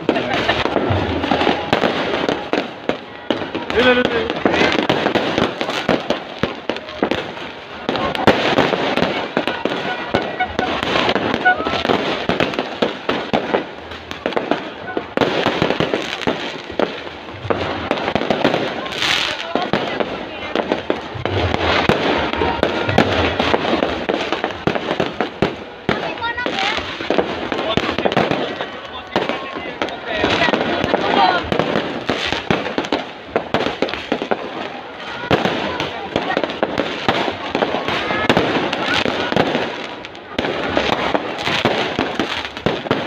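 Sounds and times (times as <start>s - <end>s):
crowd voices: 0.0s - 43.0s
fireworks bangs and crackles: 0.0s - 43.0s.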